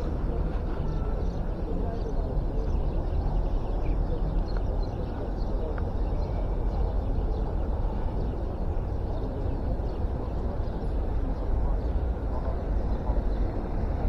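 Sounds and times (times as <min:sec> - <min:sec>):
deep rumble of traffic: 0:00.0 - 0:14.0.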